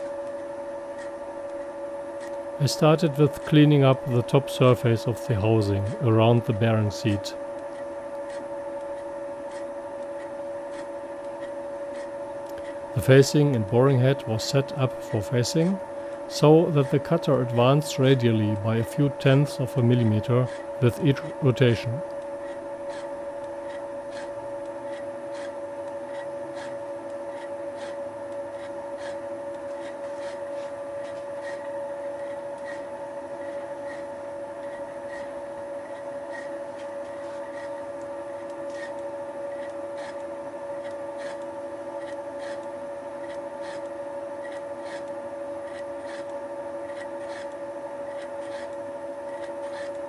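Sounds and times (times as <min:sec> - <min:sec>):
milling machine geared whine: 0:00.0 - 0:50.0.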